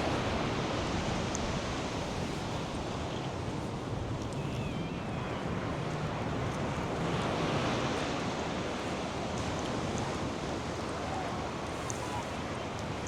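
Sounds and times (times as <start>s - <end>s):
surf washing onto beach: 0.0s - 4.4s, 5.0s - 13.0s
wind: 0.0s - 13.0s.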